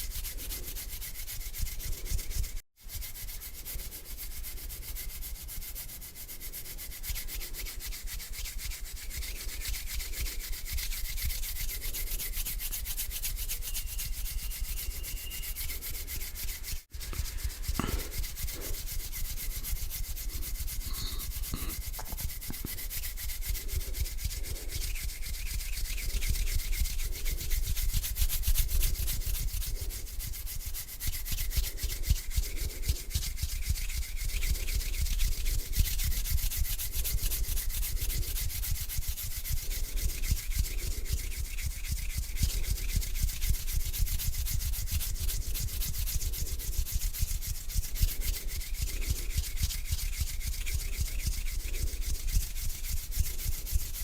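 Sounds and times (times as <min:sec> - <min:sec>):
hands rubbing together: 0:00.0 - 0:54.0.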